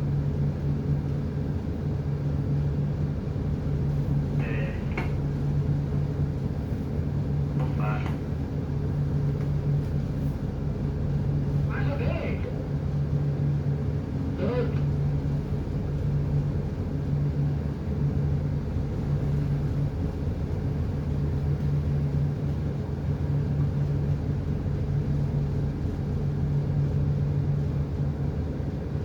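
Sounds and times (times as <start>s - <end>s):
ship diesel engine drone: 0.0s - 29.0s.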